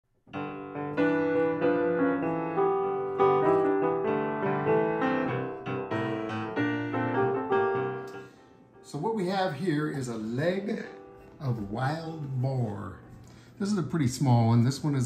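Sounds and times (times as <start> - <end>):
solo piano music: 0.2 - 15.0.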